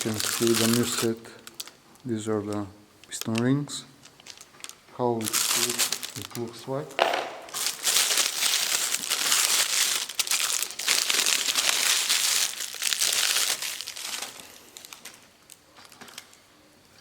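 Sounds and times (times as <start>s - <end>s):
packaging rustling and crackling: 0.0s - 16.4s.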